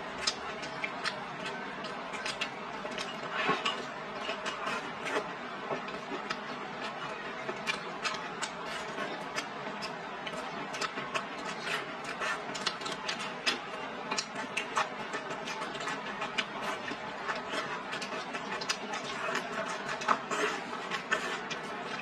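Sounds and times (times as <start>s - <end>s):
chewing with wet mouth clicks: 0.2s - 22.0s.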